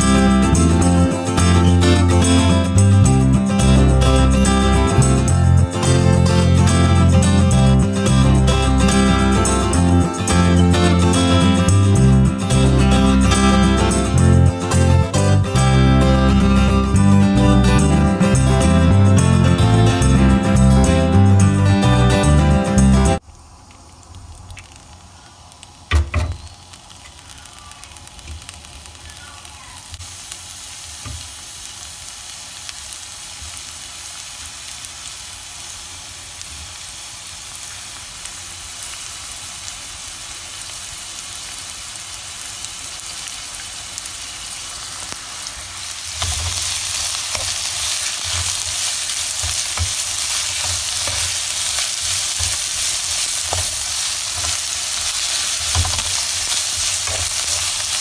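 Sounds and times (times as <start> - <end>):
vegetable strips sizzling in oil: 0.0 - 58.0.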